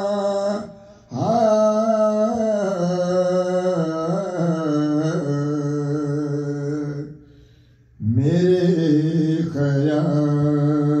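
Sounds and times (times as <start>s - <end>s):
man chanting: 0.0s - 7.2s, 8.0s - 11.0s.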